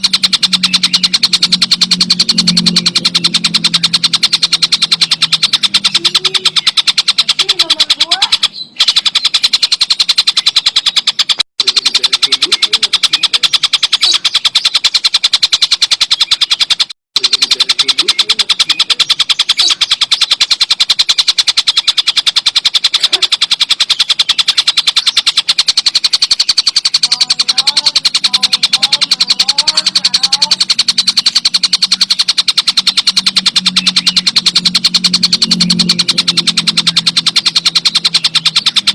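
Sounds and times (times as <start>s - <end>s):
bird rattling trill: 0.0s - 38.9s.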